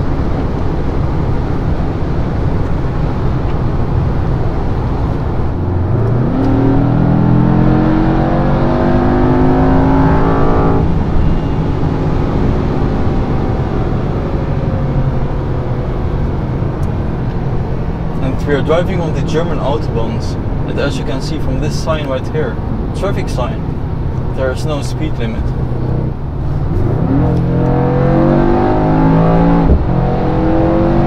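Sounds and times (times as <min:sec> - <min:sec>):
car engine accelerating hard: 0:00.0 - 0:31.0
road noise drone: 0:00.0 - 0:31.0.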